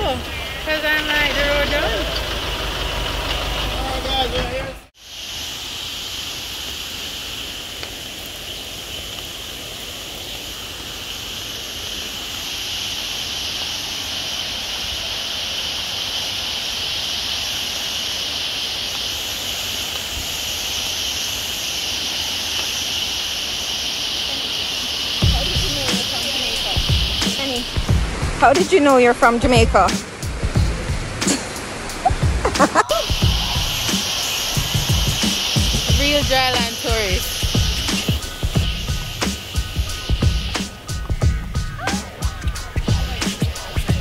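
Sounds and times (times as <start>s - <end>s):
even hiss: 0.0s - 44.0s
high insect chorus: 0.0s - 44.0s.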